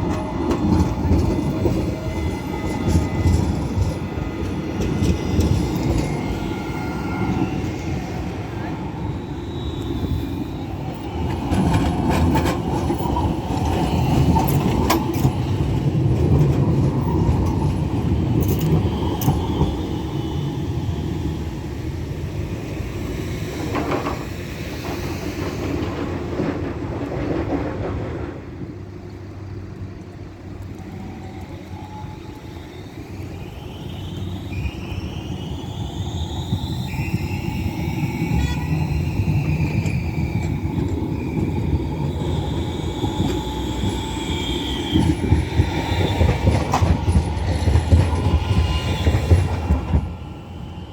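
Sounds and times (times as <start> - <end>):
high wheel squeal: 0.0 - 16.0, 17.0 - 25.5, 30.8 - 50.9
tram rumbling on rails: 0.0 - 50.9.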